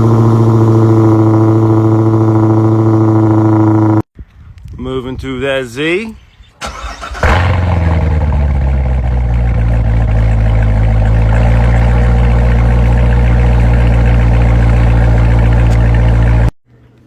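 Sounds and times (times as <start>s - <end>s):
car exhaust starting: 0.0s - 4.0s, 6.6s - 16.6s
loud car engine idling: 0.0s - 4.0s, 6.6s - 16.6s.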